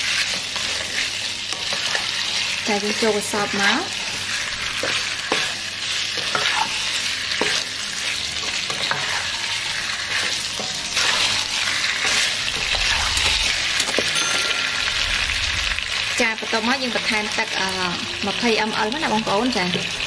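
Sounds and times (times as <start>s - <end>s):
spatula scraping wok: 0.0s - 17.6s
fish sizzling in hot oil: 0.0s - 20.0s.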